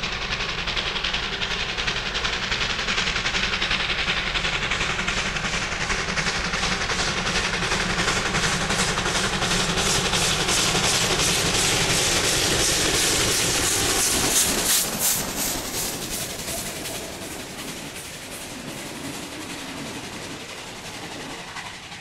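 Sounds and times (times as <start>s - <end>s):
carriages clickety-clack: 0.0s - 22.0s
steam hissing: 0.0s - 22.0s
steam locomotive exhaust beating: 0.0s - 22.0s.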